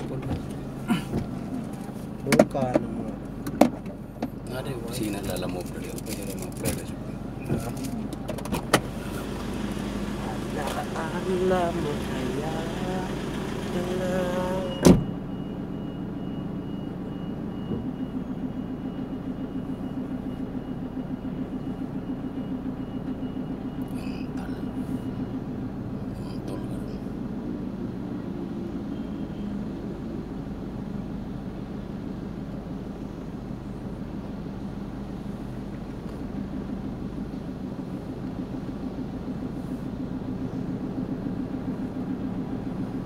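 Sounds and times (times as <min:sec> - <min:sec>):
van engine and road noise: 0:00.0 - 0:43.0.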